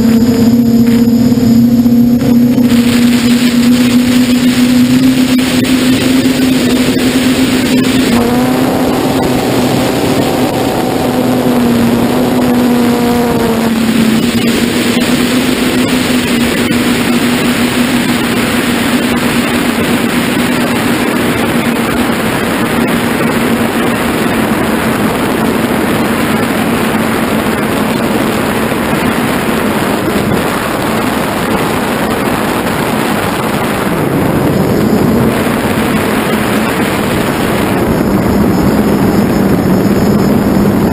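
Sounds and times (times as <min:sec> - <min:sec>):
drone motors droning: 0:00.0 - 0:40.9
wind rushing over microphone: 0:00.0 - 0:40.9.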